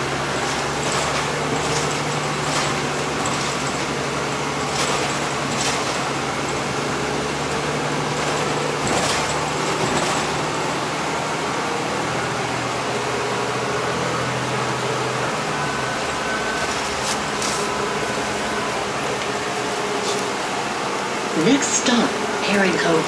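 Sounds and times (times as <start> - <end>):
bus engine hum: 0.0 - 23.0
road noise: 0.0 - 23.0.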